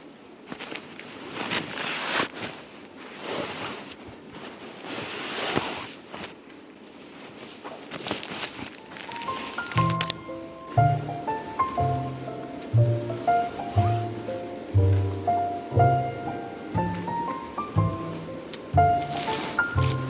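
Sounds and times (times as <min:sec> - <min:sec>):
rustling handling noises: 0:00.0 - 0:20.0.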